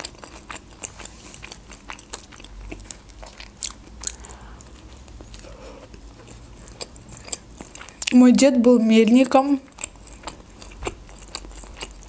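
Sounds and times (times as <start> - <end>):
wet chewing mouth sounds: 0.0 - 8.2, 9.6 - 12.0.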